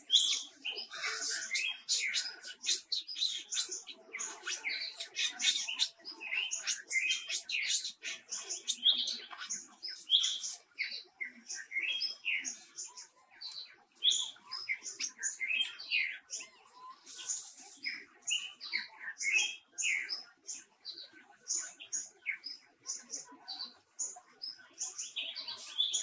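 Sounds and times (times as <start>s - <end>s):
many birds chirping: 0.0s - 26.0s.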